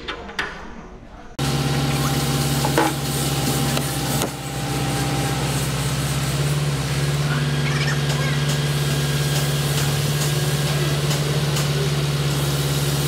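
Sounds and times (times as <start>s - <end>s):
crane engine humming: 1.4s - 13.0s.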